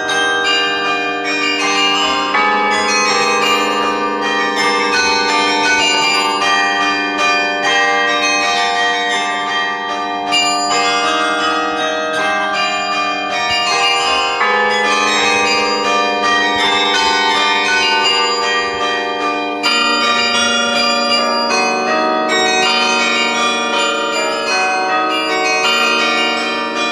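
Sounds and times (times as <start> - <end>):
carillon bells ringing: 0.0 - 26.9.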